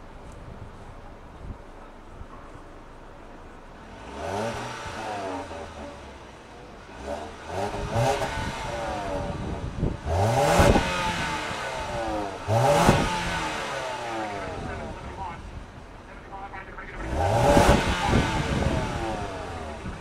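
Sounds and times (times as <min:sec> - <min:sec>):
car engine revving: 0:02.8 - 0:20.0.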